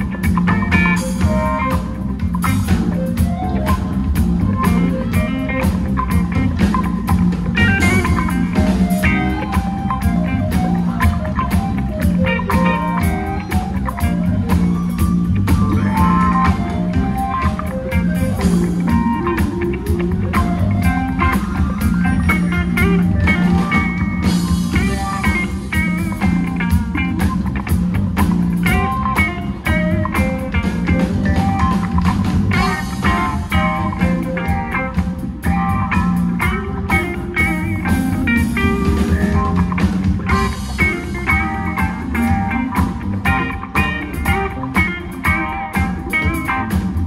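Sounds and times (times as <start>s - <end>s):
live blues rock band: 0.0s - 47.0s.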